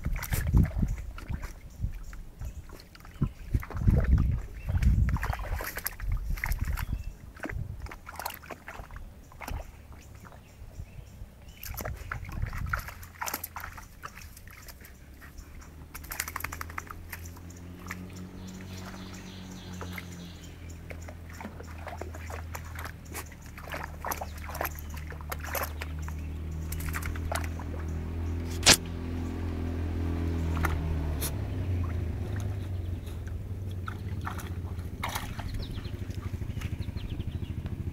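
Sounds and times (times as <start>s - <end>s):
dog splashing through puddle: 0.0s - 10.5s, 11.4s - 37.9s
low motor hum: 0.0s - 37.9s.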